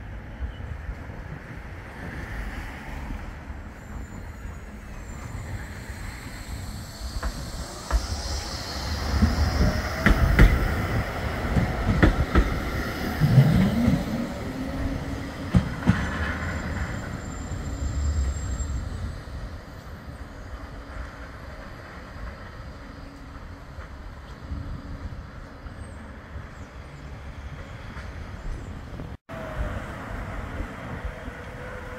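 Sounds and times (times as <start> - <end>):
tram rumble: 0.0 - 31.9.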